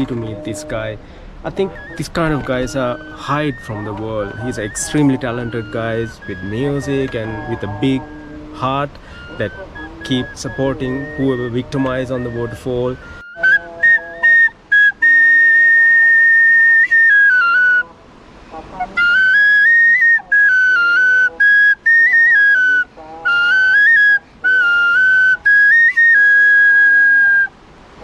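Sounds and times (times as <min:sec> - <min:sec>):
high whistle-like melody: 0:01.5 - 0:17.9, 0:18.9 - 0:27.6.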